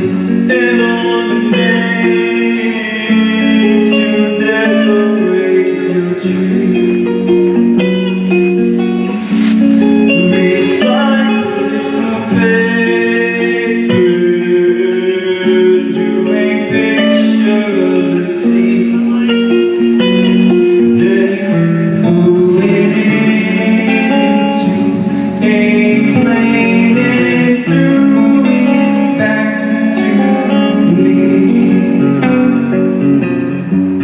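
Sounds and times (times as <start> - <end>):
live band with guitar: 0.0 - 34.0.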